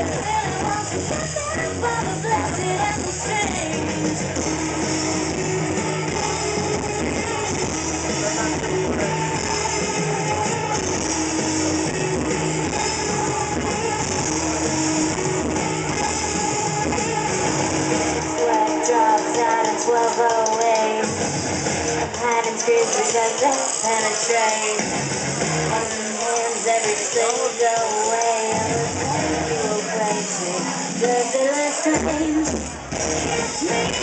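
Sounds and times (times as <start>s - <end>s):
live rock music with electric guitar: 0.0s - 34.0s.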